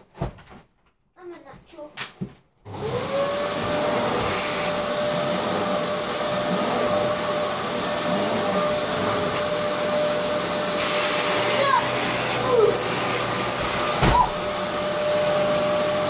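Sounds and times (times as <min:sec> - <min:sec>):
vacuum cleaner running: 0:02.7 - 0:16.0.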